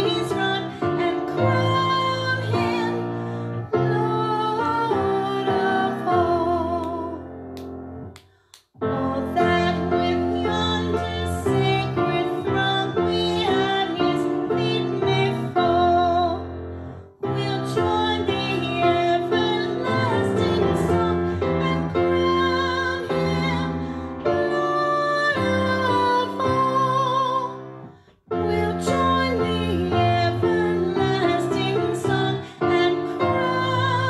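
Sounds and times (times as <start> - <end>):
woman singing with vibrato: 0.0 - 7.2, 8.8 - 16.4, 17.2 - 27.6, 28.4 - 34.0.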